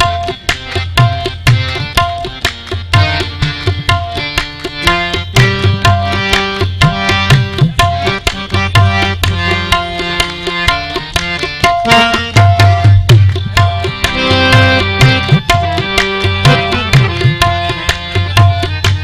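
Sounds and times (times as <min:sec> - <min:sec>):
melodic instrumental line: 0:00.0 - 0:19.0
tabla playing quick strokes: 0:00.0 - 0:19.0.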